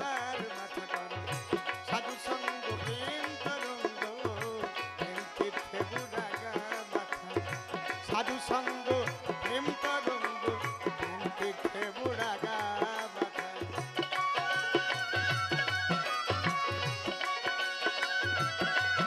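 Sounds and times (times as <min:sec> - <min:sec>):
hand drum rhythm: 0:00.0 - 0:19.0.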